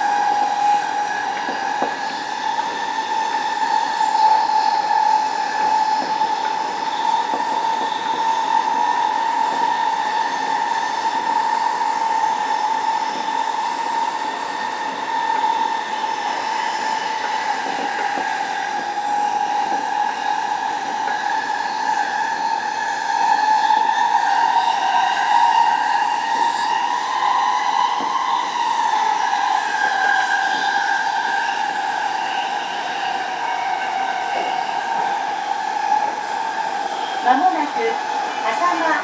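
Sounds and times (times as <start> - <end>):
electric train running: 0.0 - 39.0
high-pitched train whine: 0.0 - 39.0.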